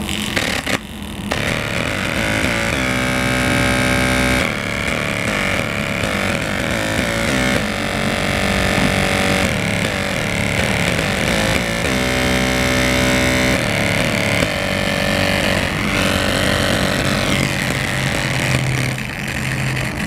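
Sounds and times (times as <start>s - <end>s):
distorted buzz from small speaker: 0.0s - 20.0s.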